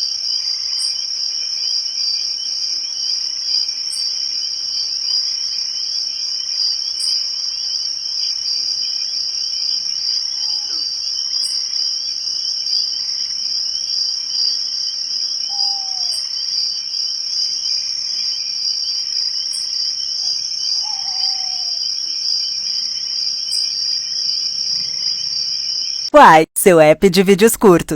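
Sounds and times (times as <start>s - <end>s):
crickets trilling: 0.0s - 26.1s.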